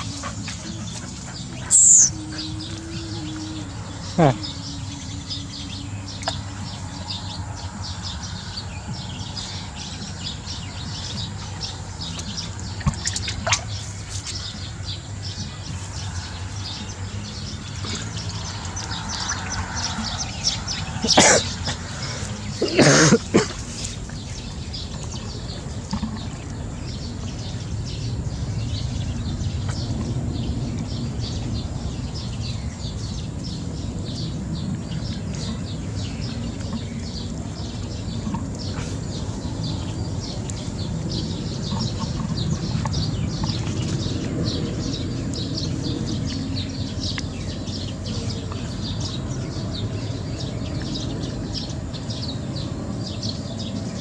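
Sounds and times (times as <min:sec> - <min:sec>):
steady low rumble: 0:00.0 - 0:22.6, 0:23.2 - 0:54.0
small birds chirping: 0:00.0 - 0:54.0.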